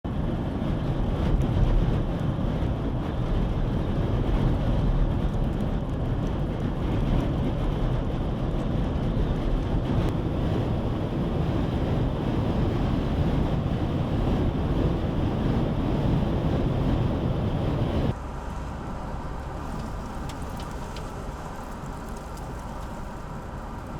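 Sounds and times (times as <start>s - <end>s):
strong dust-storm wind: 0.0s - 23.9s
vehicle road noise rumble: 0.0s - 23.9s.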